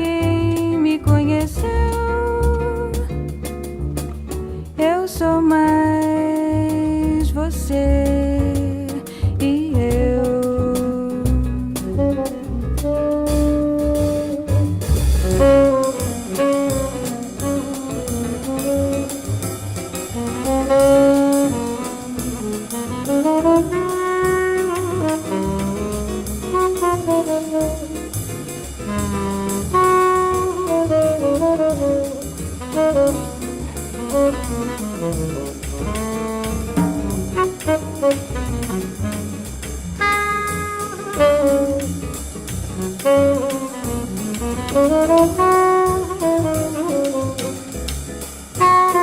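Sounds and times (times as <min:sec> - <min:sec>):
saxophone melody: 0:00.0 - 0:03.1, 0:11.8 - 0:47.9, 0:48.5 - 0:49.0
double bass: 0:00.0 - 0:49.0
drum kit: 0:00.0 - 0:49.0.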